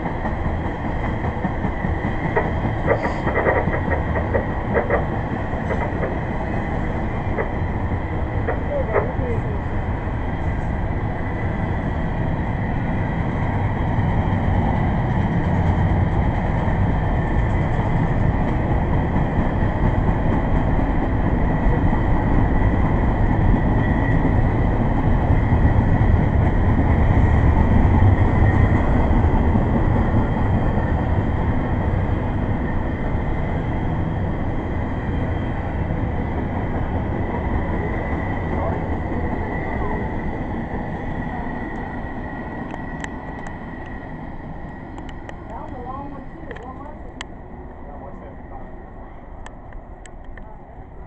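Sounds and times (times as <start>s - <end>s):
freight train wheels rumbling: 0.0s - 51.0s
high ringing of rails: 0.0s - 51.0s.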